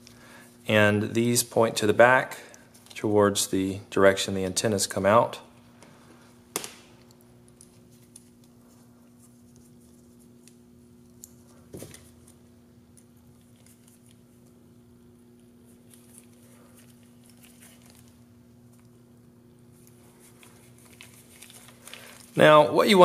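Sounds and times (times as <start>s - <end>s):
steady faint hum: 0.0s - 23.0s.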